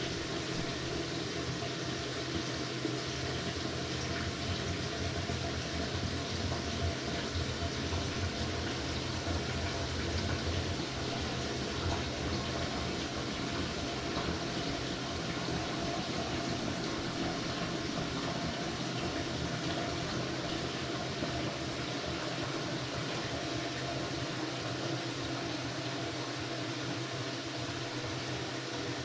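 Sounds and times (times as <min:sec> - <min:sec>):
toilet cistern refilling: 0:00.0 - 0:29.0.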